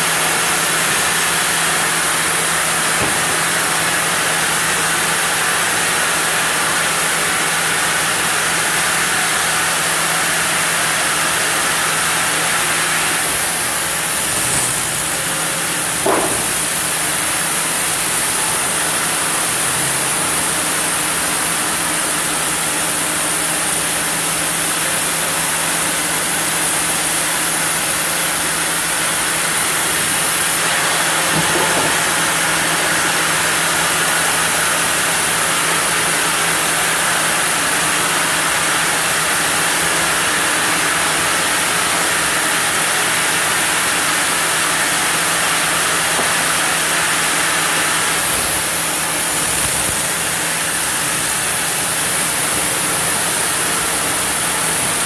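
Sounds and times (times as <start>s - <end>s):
sawmill saw cutting wood: 0.0s - 55.0s.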